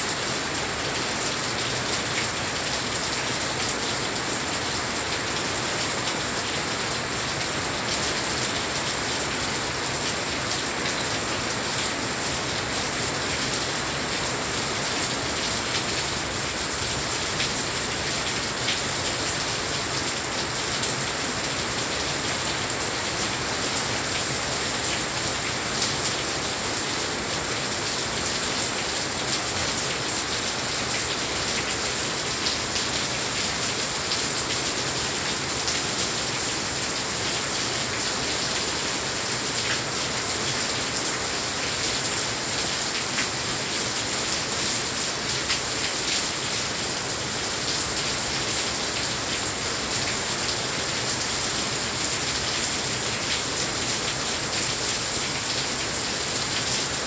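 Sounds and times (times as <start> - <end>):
heavy rain on glass railing: 0.0 - 57.0.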